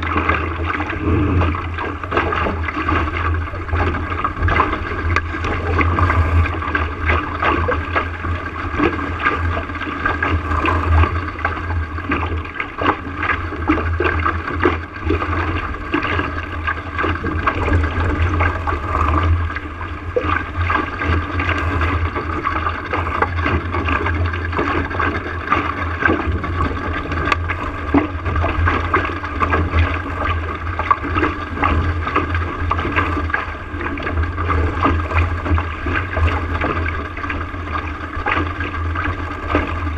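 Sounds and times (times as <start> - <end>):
water gurgling along a boat hull: 0.0 - 39.9
wind rumble on microphone: 0.0 - 39.9.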